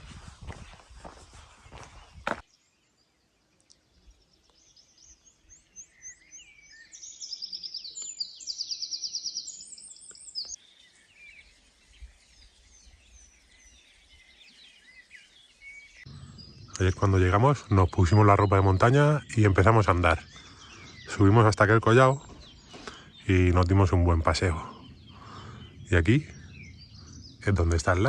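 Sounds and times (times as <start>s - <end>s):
faint bird chirps: 0.7s - 28.0s
songbird trilling: 4.4s - 28.0s.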